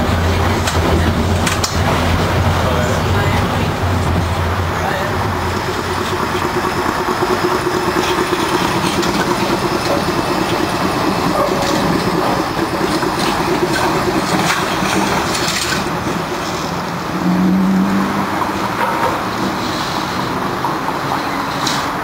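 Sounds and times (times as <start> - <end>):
streetcar passing on rails: 0.0 - 22.0
wheels clicking and rattling: 0.0 - 22.0.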